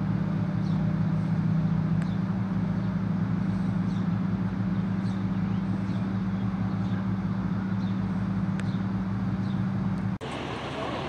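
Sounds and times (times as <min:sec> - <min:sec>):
large engine running steadily: 0:00.0 - 0:11.0.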